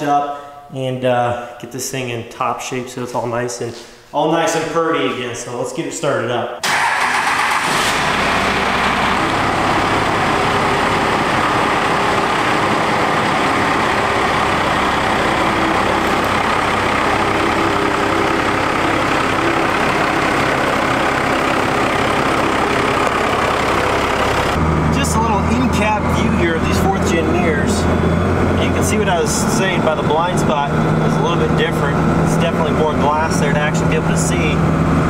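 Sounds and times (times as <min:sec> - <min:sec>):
diesel engine idling: 0:06.6 - 0:35.0.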